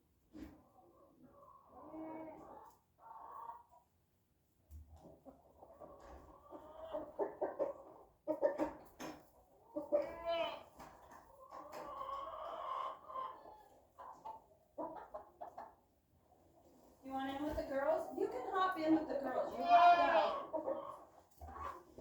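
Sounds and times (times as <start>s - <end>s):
chicken clucking: 0.4s - 3.9s, 4.5s - 22.0s.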